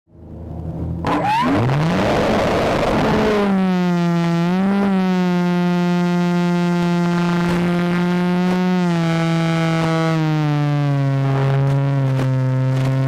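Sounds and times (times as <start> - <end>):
electric motor and propeller whine: 0.6 - 13.0.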